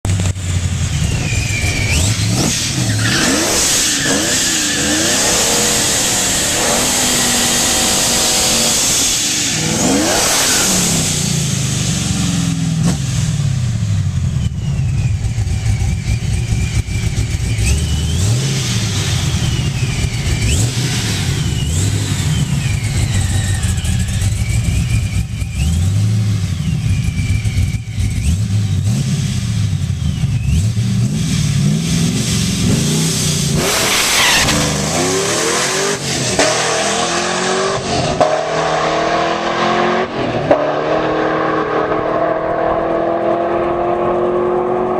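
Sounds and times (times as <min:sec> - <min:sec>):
car engine revving: 0:00.0 - 0:44.9
supercharger whine: 0:00.0 - 0:44.9.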